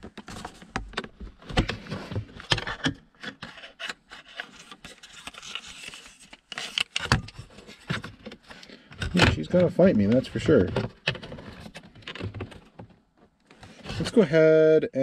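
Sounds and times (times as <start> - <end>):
hard plastic scraping and clicking: 0.0 - 14.2.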